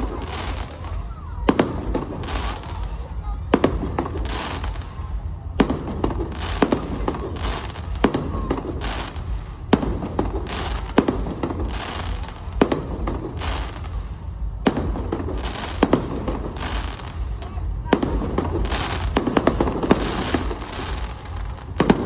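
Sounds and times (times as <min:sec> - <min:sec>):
firework bangs: 0:00.0 - 0:22.0
firework crackling: 0:00.0 - 0:22.0
low rumble: 0:00.0 - 0:22.0.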